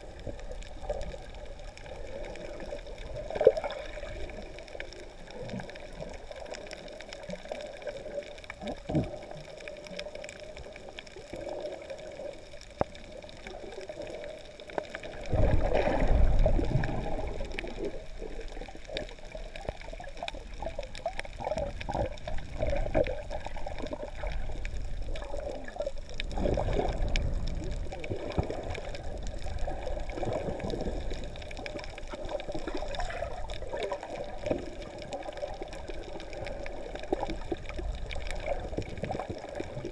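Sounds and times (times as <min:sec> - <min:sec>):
muffled underwater sea water sloshing: 0:00.0 - 0:39.9.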